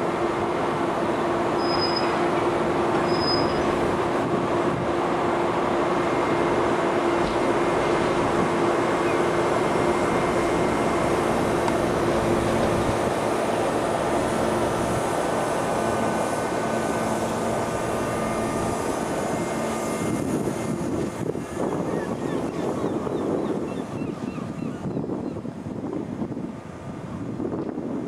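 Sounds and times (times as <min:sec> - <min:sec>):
constant low hum: 0:00.0 - 0:28.0
ferry engines droning: 0:00.0 - 0:28.0
wind buffeting microphone: 0:03.6 - 0:28.0.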